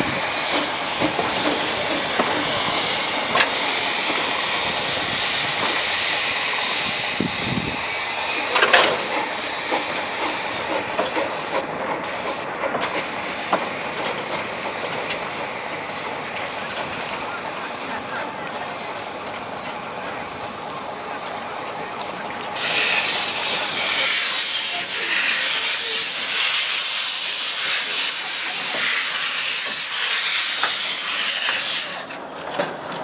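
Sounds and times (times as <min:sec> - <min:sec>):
steam locomotive hissing: 0:00.0 - 0:32.7.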